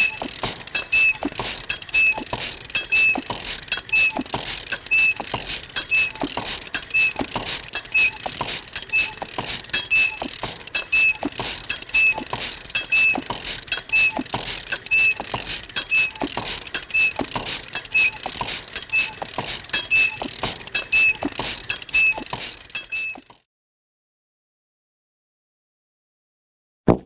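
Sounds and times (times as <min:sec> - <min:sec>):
quick light pattering: 0:00.0 - 0:23.3.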